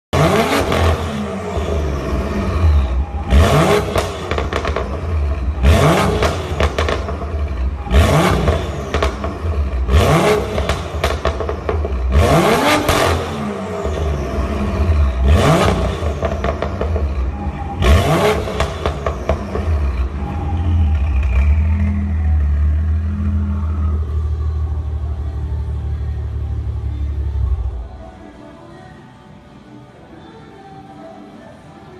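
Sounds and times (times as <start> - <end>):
car engine revving: 0.1 - 27.8.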